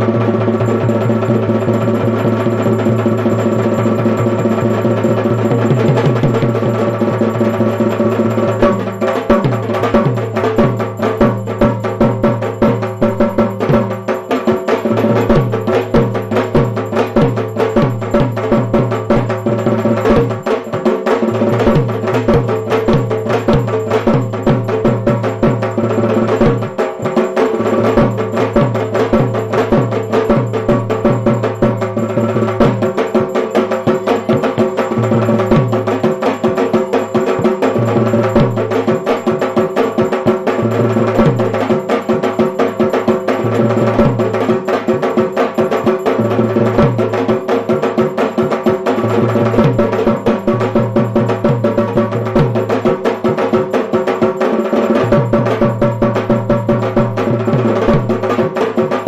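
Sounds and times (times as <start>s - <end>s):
fast drums and percussion: 0.0s - 59.0s.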